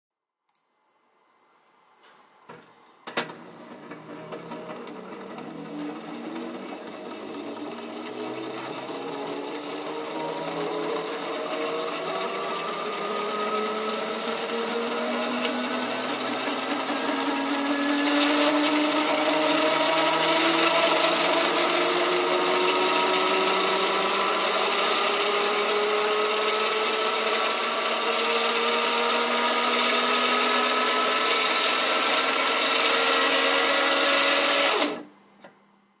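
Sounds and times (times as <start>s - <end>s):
motor and gears whining and rattling: 3.2s - 35.1s.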